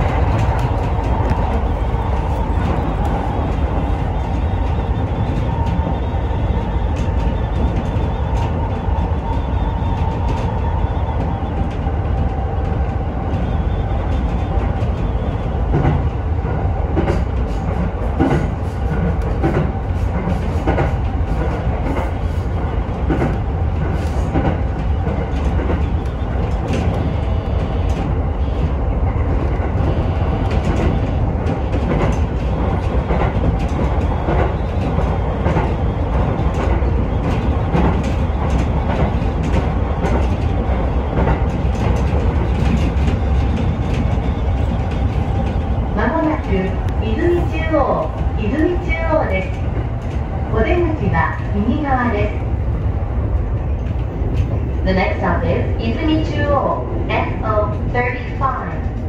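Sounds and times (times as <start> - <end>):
wheels clicking over rails: 0.0 - 50.5
train rumble: 0.0 - 59.0.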